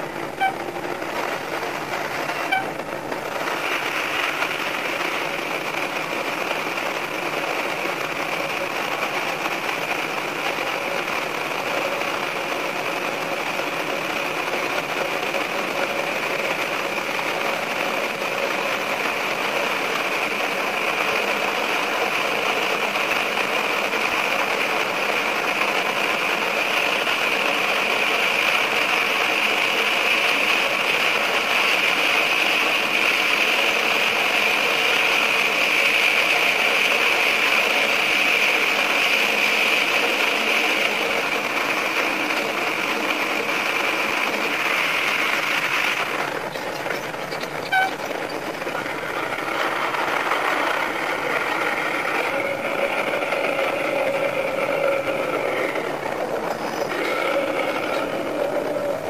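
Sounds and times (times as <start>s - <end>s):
train engine and wheels on rails: 0.0s - 59.0s.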